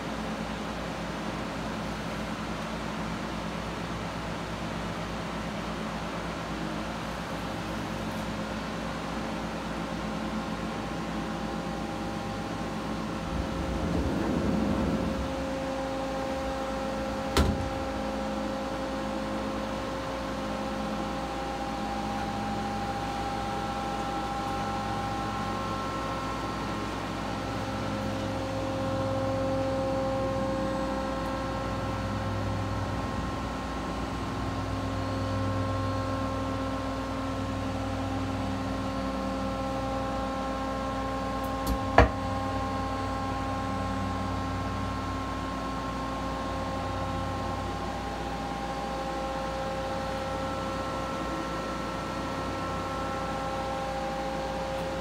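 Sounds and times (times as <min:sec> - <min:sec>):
machine hum with steady tones: 0:00.0 - 0:55.0.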